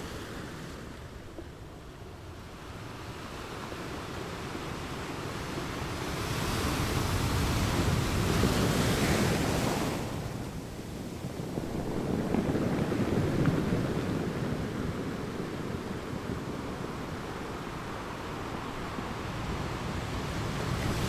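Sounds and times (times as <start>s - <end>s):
choppy sea water: 0.0s - 21.0s
wind rushing over microphone: 0.0s - 21.0s.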